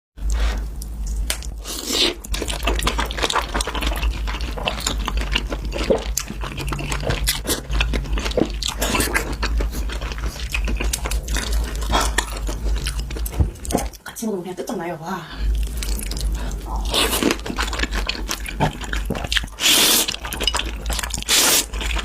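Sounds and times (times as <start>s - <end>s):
person chewing crunchy food: 0.2s - 14.0s, 15.5s - 22.0s.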